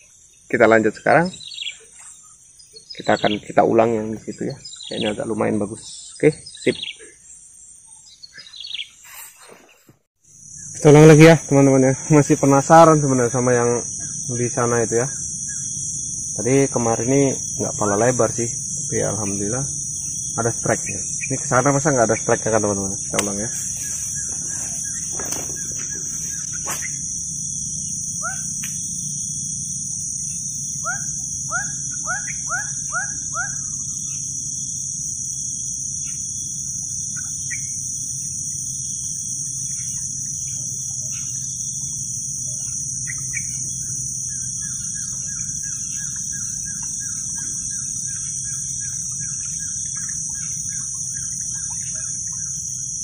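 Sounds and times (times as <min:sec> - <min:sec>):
high-pitched insect drone: 0:00.0 - 0:09.6, 0:10.2 - 0:53.0
birds chirping: 0:00.0 - 0:53.0.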